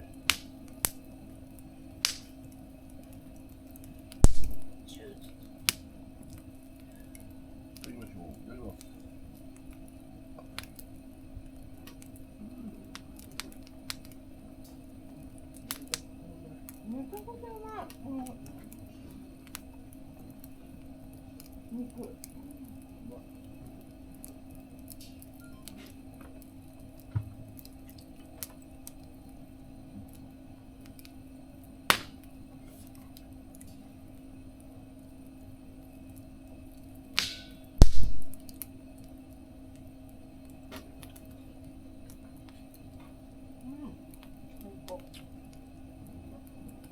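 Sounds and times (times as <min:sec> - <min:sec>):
fire popping: 0:00.0 - 0:46.9
low hum: 0:00.0 - 0:46.9
wood fire crackling: 0:00.0 - 0:46.9.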